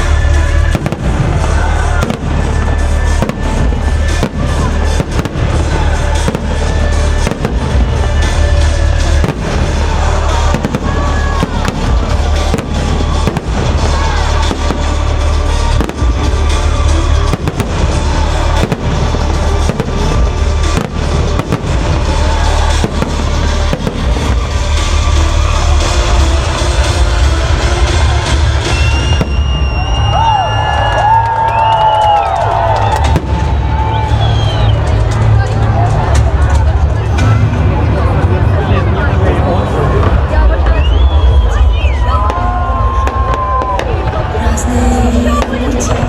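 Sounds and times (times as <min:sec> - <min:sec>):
fireworks bangs: 0:00.0 - 0:46.0
music: 0:00.0 - 0:46.0.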